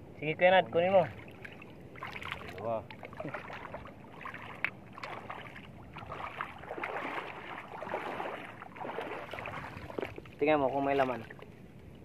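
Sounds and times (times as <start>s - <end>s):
seawater splashing and sloshing: 0.7s - 11.6s.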